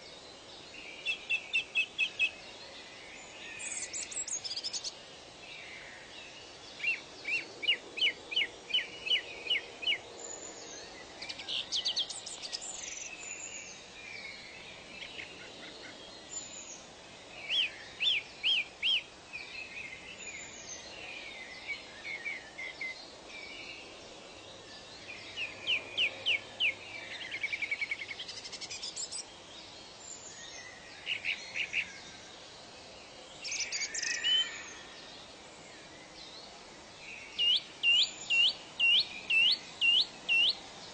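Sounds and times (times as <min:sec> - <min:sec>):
faint background hiss: 0:00.0 - 0:40.9
songbirds chirping: 0:00.0 - 0:40.9.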